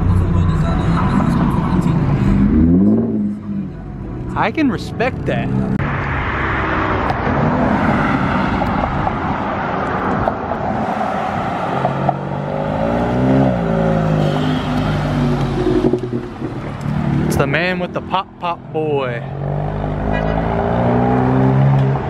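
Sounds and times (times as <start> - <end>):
vehicles driving past: 0.0 - 22.0.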